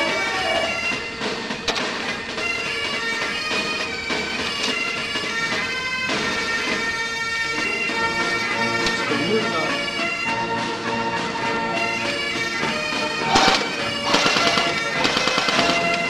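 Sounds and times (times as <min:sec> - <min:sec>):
background music of held notes: 0:00.0 - 0:16.0
continuous drone: 0:00.0 - 0:16.0.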